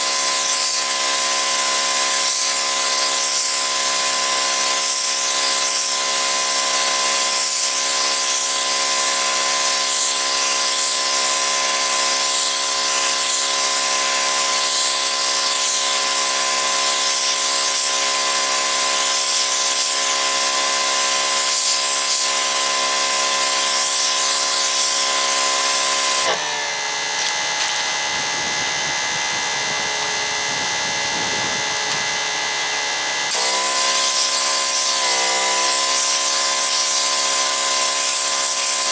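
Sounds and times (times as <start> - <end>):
pressure washer motor whine: 0.0 - 38.9.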